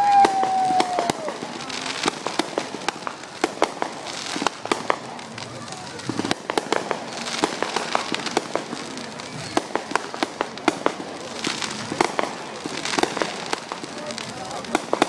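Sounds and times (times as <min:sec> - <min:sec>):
fireworks bangs and pops: 0:00.0 - 0:15.0
fireworks crackling: 0:00.0 - 0:15.0.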